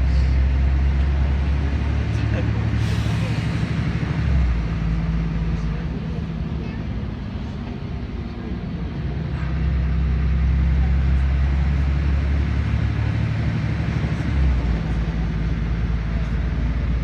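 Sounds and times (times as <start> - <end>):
bus diesel engine under load: 0.0 - 17.0
road noise: 0.0 - 17.0.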